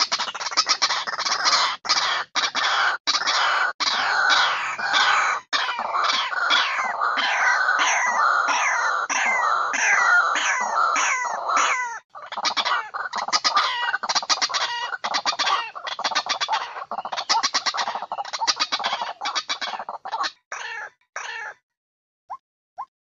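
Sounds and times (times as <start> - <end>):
waterhens croaking and clucking: 0.0 - 21.6.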